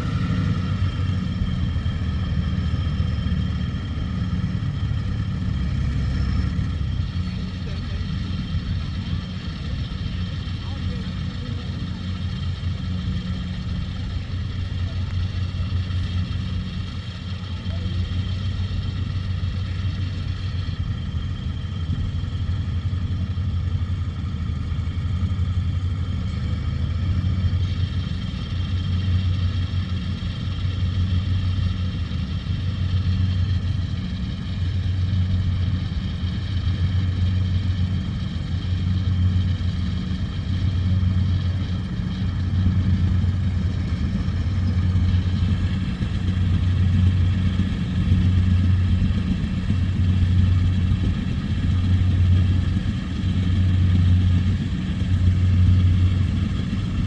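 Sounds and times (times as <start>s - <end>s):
combine harvester engine droning: 0.0s - 57.0s
steady high whine: 0.0s - 57.0s.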